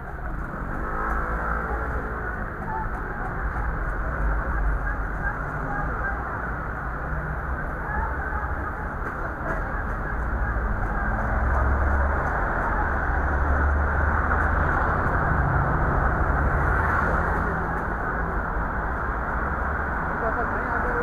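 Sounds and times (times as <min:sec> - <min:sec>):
street din: 0:00.0 - 0:21.0
vehicle engines passing: 0:00.0 - 0:21.0.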